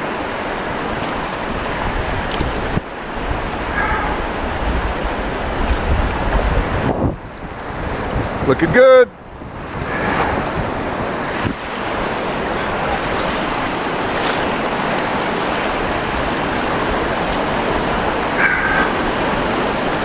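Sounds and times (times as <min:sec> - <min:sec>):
river rapids rushing: 0:00.0 - 0:20.0
wind on microphone: 0:00.0 - 0:20.0.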